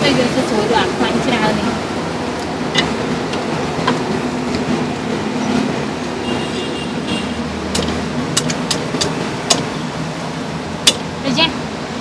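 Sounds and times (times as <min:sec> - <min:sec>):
busy street market rumble: 0:00.0 - 0:12.0.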